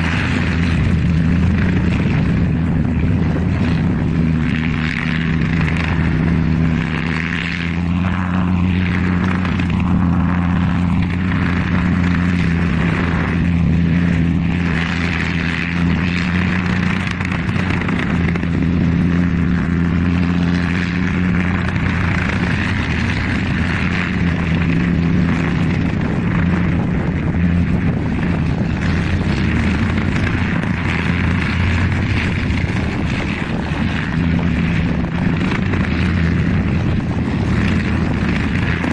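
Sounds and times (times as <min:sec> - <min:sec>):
propeller airplane engine drone: 0:00.0 - 0:38.9.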